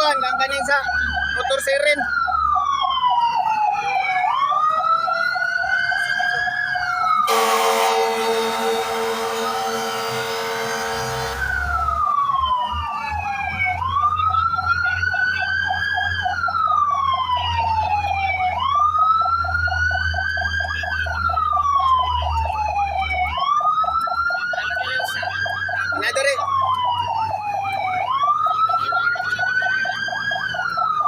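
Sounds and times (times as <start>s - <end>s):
fire truck siren wailing: 0.0s - 31.0s.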